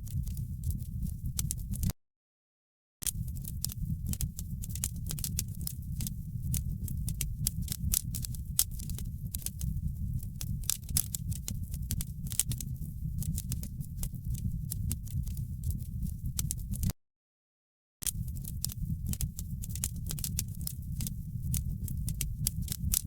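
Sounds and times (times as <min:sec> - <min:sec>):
wood fire crackling and popping: 0:03.1 - 0:16.9, 0:18.0 - 0:23.0.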